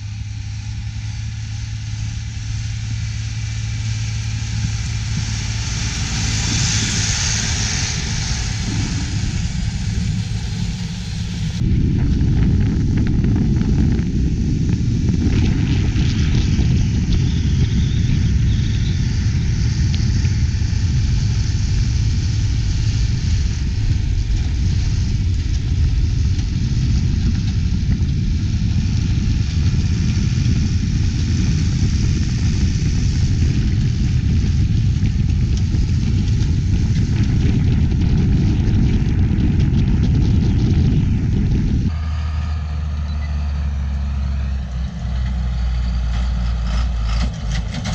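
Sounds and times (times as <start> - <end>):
manure spreader beaters running: 0.0 - 47.9
tractor diesel engine under load: 0.0 - 47.9.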